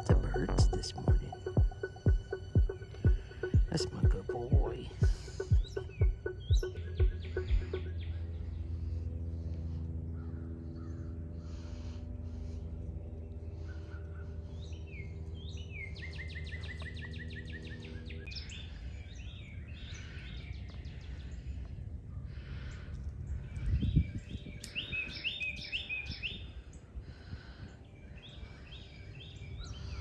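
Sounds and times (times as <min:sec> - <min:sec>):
birds chirping and calling: 0:00.0 - 0:30.0
steady low hum: 0:00.0 - 0:30.0.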